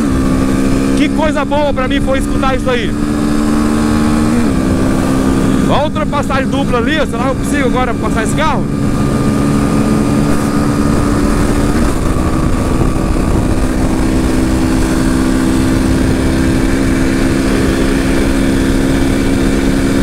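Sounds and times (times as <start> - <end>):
heavy wind noise: 0.0 - 20.0
motorcycle engine running: 0.0 - 20.0.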